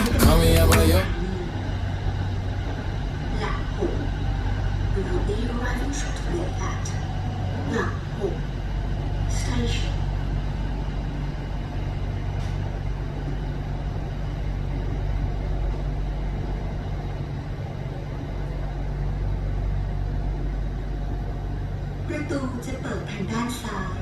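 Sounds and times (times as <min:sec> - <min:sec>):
low hum: 0:00.0 - 0:24.0
train rumbling in motion: 0:00.0 - 0:24.0.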